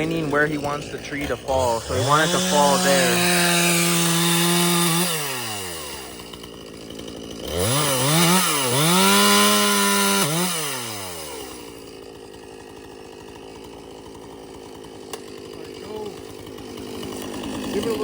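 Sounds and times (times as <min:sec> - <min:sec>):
chainsaw revving and idling: 0:00.0 - 0:18.0.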